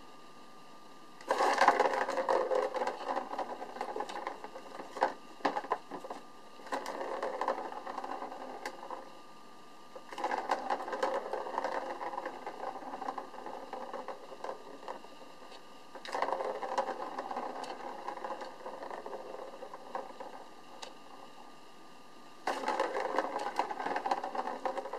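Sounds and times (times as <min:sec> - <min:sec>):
plastic ball rolling in a track: 0:01.2 - 0:09.2, 0:10.0 - 0:21.4, 0:22.4 - 0:24.9.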